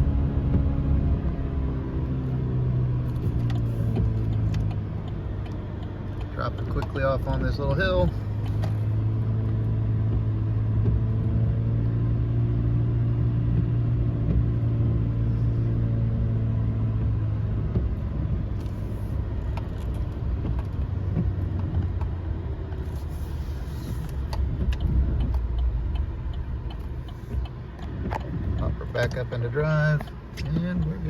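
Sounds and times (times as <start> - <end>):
low road rumble: 0.0 - 31.0.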